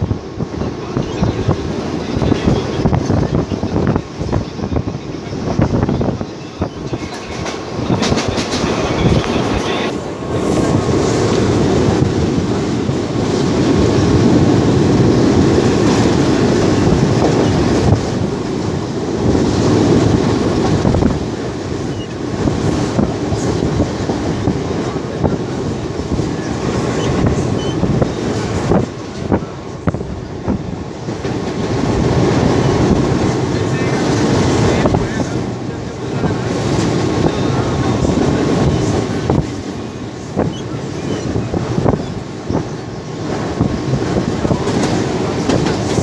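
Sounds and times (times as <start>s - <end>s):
clickety-clack of rail joints: 0.0s - 46.0s
train wheels rumbling on rails: 0.0s - 46.0s.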